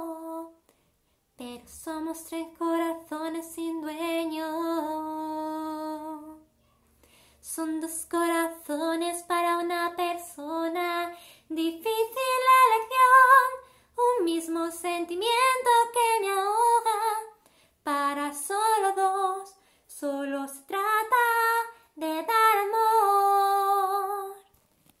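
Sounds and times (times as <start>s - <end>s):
woman singing unaccompanied: 0.0s - 0.6s, 1.4s - 6.4s, 7.4s - 24.5s.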